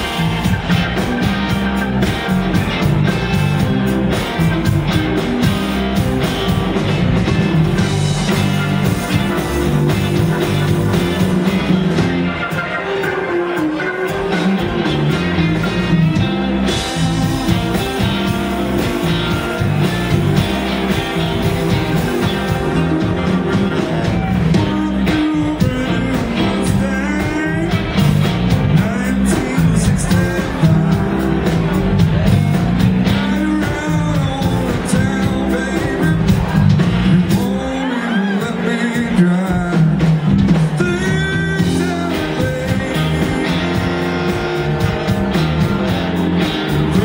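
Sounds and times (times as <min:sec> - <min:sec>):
electric guitar lead line bending: 0:00.0 - 0:38.0, 0:40.1 - 0:47.0
blues-rock band playing: 0:00.0 - 0:47.0.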